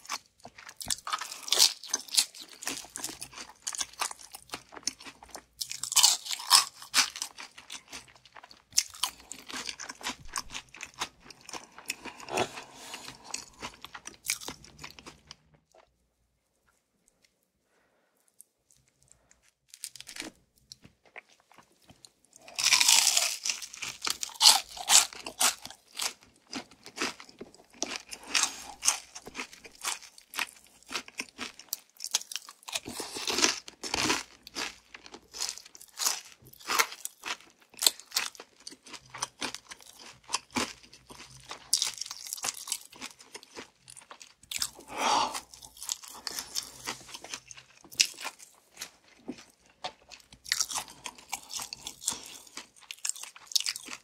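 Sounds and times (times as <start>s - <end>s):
crunching fried chicken: 0.0s - 15.9s, 18.7s - 54.0s.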